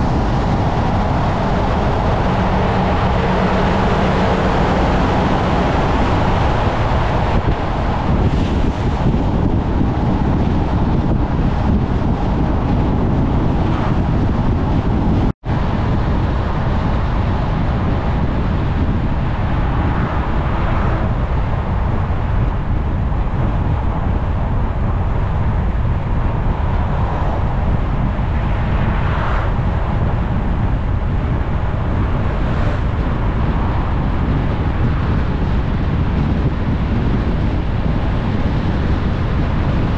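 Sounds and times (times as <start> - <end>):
vehicle road noise rumble: 0.0 - 39.9
wind on microphone: 0.0 - 39.9.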